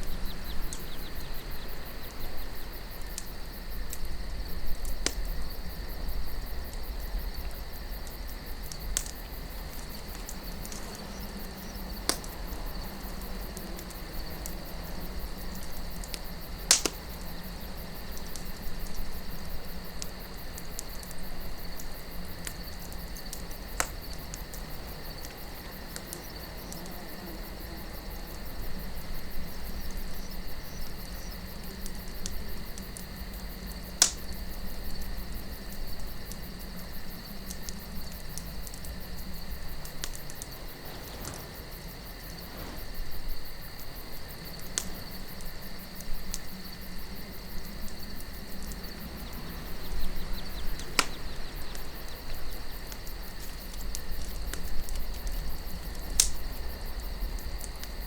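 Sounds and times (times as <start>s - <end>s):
campfire crackling and popping: 0.0s - 58.0s
high insect-like tone: 0.0s - 58.0s
soft wind: 0.0s - 58.0s.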